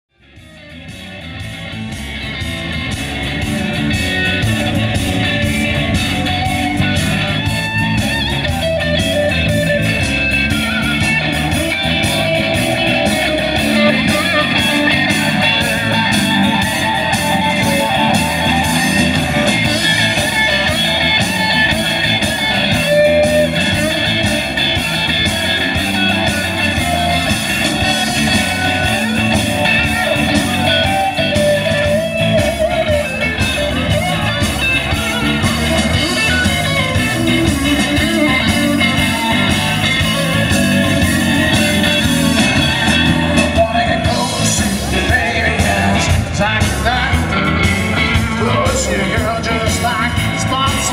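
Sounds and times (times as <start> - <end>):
bass guitar: 0.0 - 50.9
drums: 0.0 - 50.9
electric guitar: 0.1 - 50.9.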